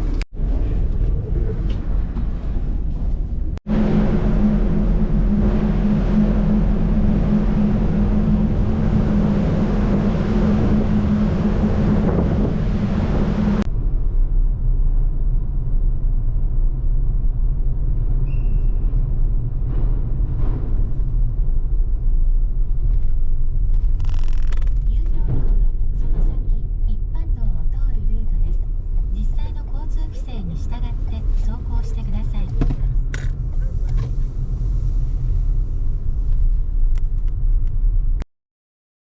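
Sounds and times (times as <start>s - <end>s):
car engine and tyres rumbling: 0.0s - 38.2s.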